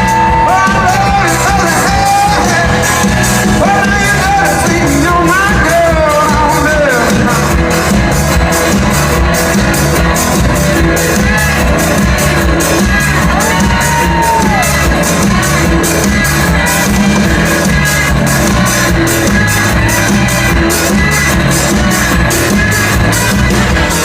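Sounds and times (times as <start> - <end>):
bass: 0.0 - 24.0
country rock band playing: 0.0 - 24.0
drum beat: 0.0 - 24.0
sliding lead notes: 0.0 - 24.0.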